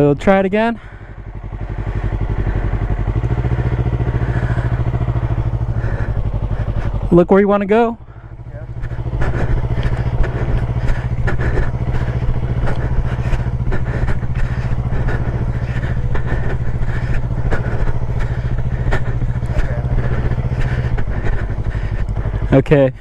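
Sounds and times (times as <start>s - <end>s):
motorcycle engine at low revs: 0.0s - 23.0s.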